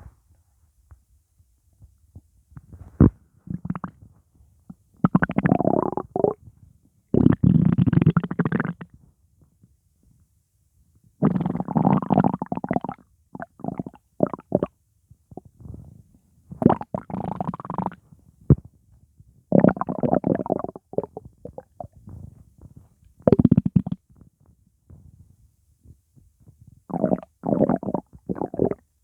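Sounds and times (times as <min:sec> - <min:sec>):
stomach rumbling and gurgling: 0:02.2 - 0:09.6, 0:11.2 - 0:29.0.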